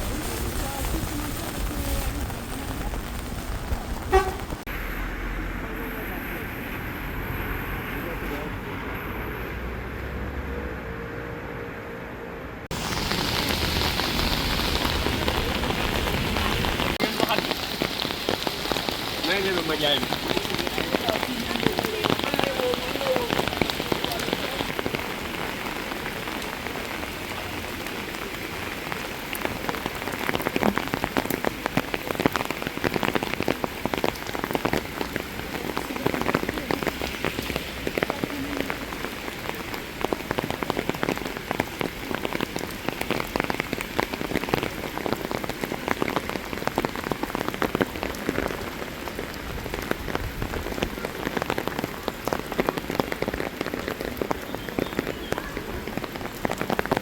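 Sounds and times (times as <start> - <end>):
rain pattering on hard surfaces: 0.0 - 4.8, 12.7 - 57.0.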